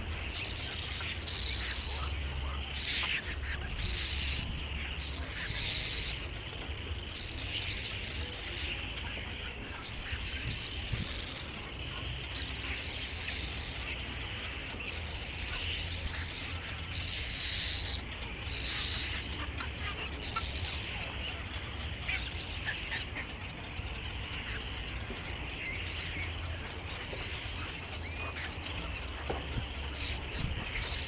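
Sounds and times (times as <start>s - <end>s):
birds chirping: 0.0s - 31.0s
steady low rumble: 0.0s - 31.0s.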